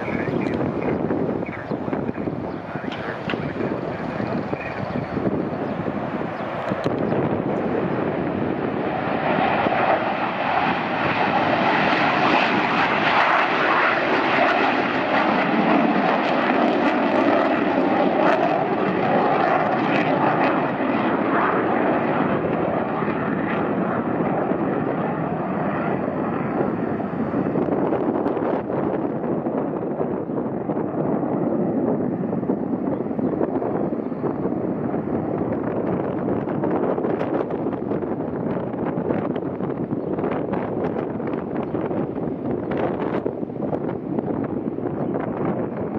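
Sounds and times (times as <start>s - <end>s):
jet engines at takeoff power: 0.0s - 45.9s.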